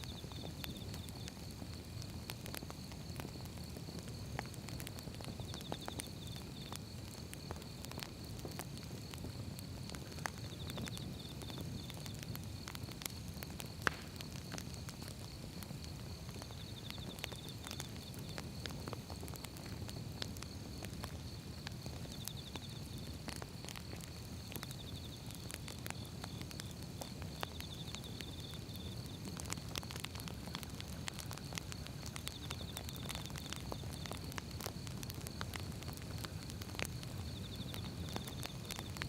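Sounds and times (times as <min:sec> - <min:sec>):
firewood crackling: 0:00.0 - 0:39.0
low rumble of flames: 0:00.0 - 0:39.0.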